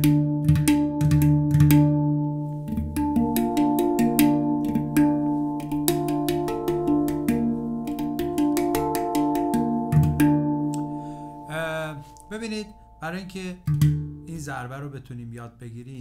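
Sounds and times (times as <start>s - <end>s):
handpan played by hand: 0.0s - 13.0s, 13.7s - 14.3s.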